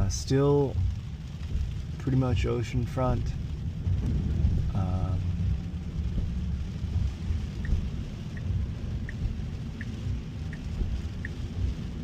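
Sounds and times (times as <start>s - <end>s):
light ticking: 0.0s - 12.0s
road and rain rumble in car cabin: 0.0s - 12.0s.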